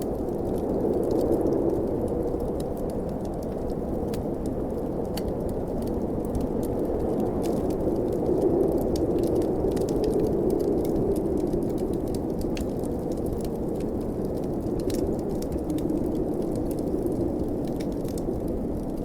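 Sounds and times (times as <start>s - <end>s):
blizzard wind rushing: 0.0s - 19.0s
wood fire crackling: 0.0s - 19.0s.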